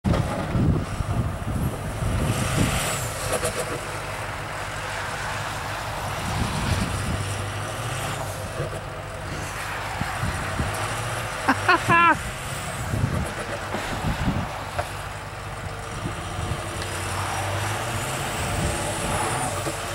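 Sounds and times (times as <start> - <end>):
truck engine rumbling under load: 0.0 - 19.9.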